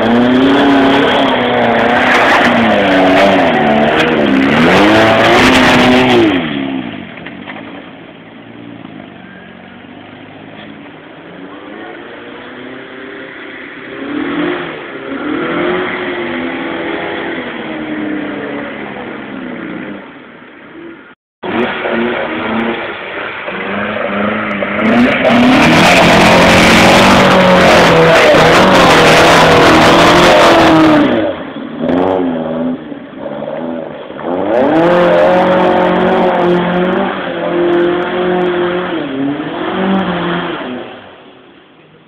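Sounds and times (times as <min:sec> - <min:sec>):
rushing noise: 0:00.0 - 0:07.9, 0:10.8 - 0:42.0
car engine revving: 0:00.0 - 0:20.2, 0:20.8 - 0:41.4.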